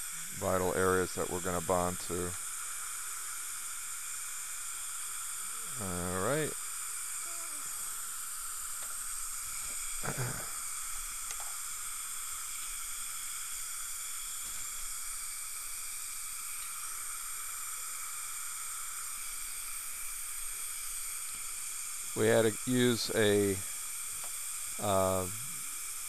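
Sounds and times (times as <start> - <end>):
faint even whine: 0.0 - 26.0
steady high hiss: 0.0 - 26.0.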